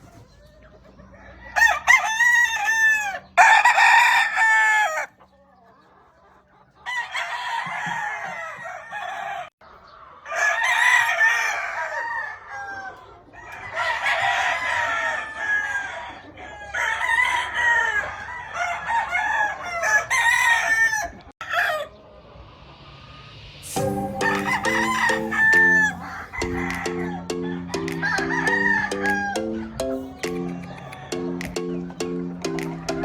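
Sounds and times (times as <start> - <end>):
roosters crowing: 1.0 - 5.2, 6.7 - 33.0.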